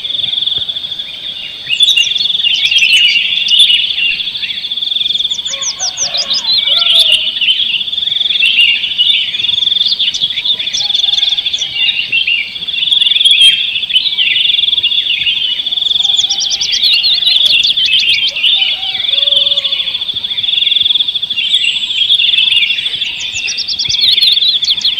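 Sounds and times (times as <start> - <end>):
songbird trilling and whistling: 0.0 - 24.9.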